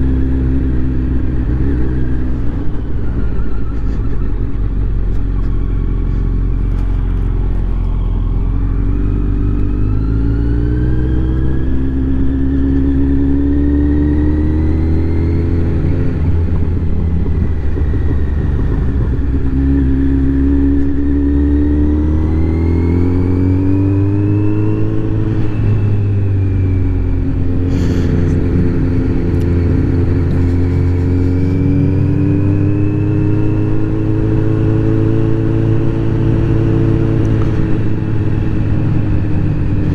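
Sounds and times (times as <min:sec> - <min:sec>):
motorcycle engine riding: 0:00.0 - 0:39.9
wind rumble on microphone: 0:00.0 - 0:39.9.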